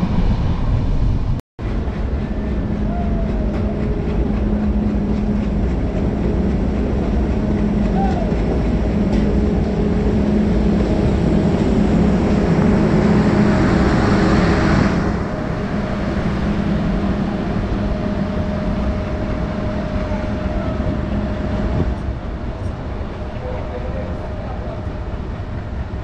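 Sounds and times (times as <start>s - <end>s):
train coaches rumbling past: 0.0s - 26.0s.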